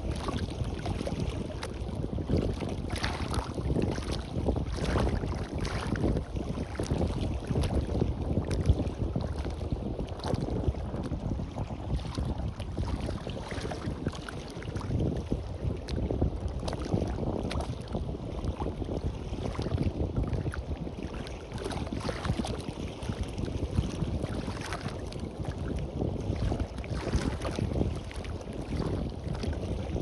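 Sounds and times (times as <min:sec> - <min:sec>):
small waves washing on beach: 0:00.0 - 0:30.0
wind buffeting microphone: 0:00.0 - 0:30.0.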